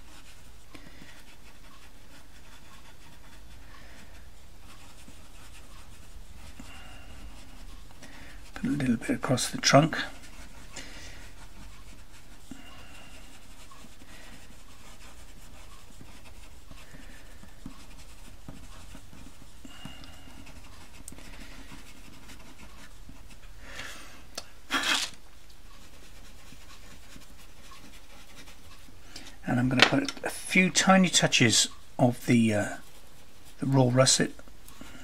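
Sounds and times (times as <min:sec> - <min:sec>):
pencil scratching on paper: 0:00.0 - 0:23.6, 0:24.7 - 0:35.0.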